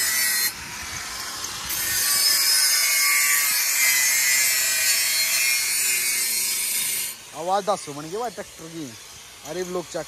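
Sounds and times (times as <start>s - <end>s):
angle grinder cutting metal: 0.0s - 10.0s.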